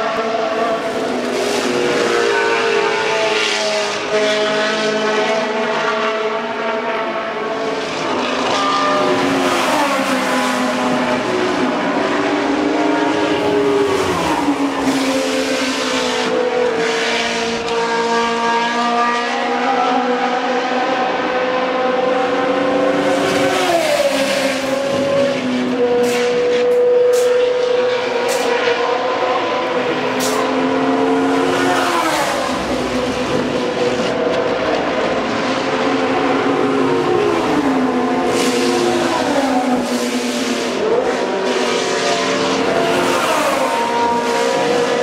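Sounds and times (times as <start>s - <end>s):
racing car engines at high revs: 0.0s - 45.0s.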